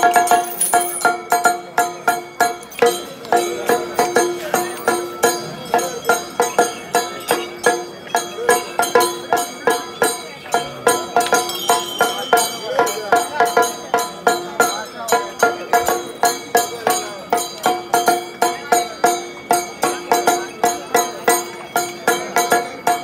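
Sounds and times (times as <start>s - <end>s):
steady percussive beat: 0.0s - 23.0s
traditional music: 0.0s - 23.0s.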